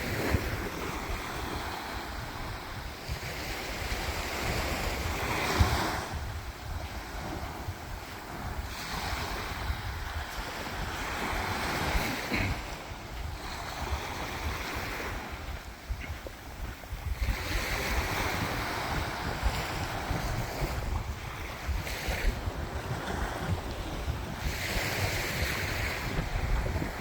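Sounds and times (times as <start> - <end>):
small waves breaking on shore: 0.0 - 27.0
wind rumbling on microphone: 0.0 - 27.0.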